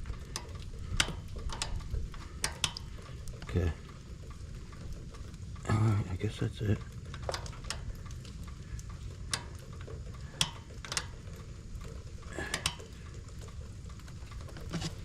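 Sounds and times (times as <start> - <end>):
low steady rumble: 0.0 - 15.0
light clicks and knocks: 0.1 - 5.6, 6.5 - 15.0.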